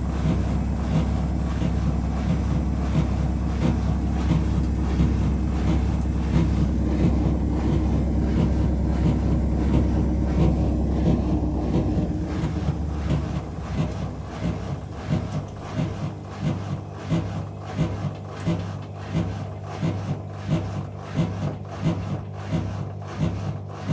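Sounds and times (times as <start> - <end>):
washing machine spinning: 0.0 - 23.9.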